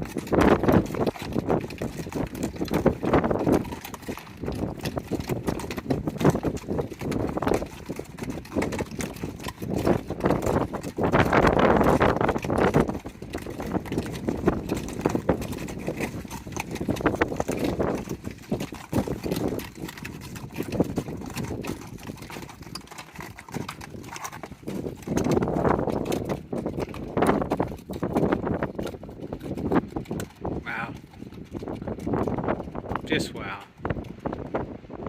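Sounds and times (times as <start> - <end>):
hooves clopping on a trail: 0.0 - 35.0.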